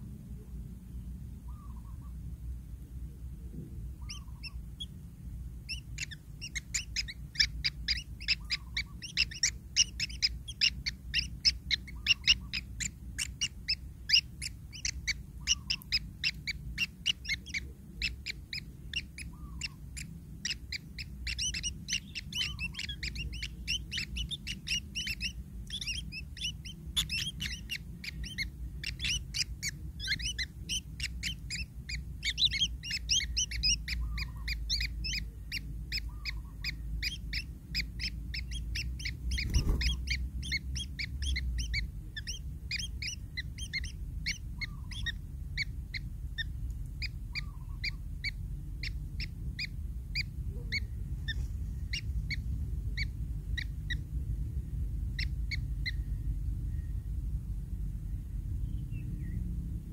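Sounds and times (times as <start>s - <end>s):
nestlings chirping: 3.8s - 57.4s
low rumble: 10.2s - 59.9s.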